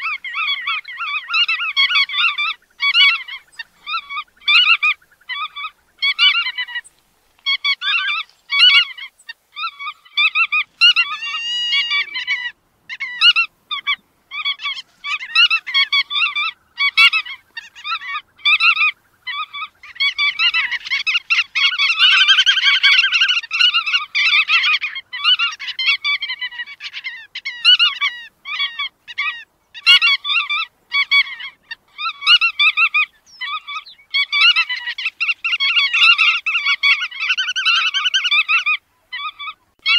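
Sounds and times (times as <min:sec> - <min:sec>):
shorebirds calling: 0:00.0 - 0:39.9.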